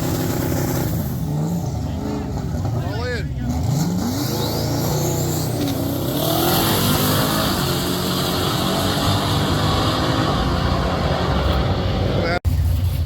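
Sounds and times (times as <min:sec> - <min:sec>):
race car engine revving: 0:00.0 - 0:12.4.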